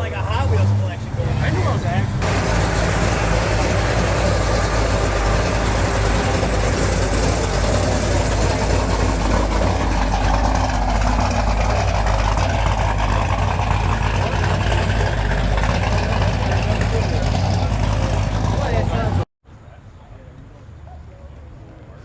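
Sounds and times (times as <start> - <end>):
car engine idling: 0.0 - 19.3.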